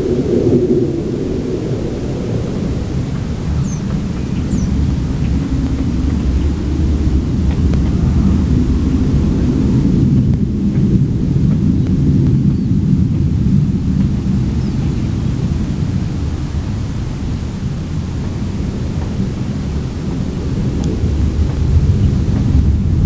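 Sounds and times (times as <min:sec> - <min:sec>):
low rumbling drone: 0:00.0 - 0:23.0.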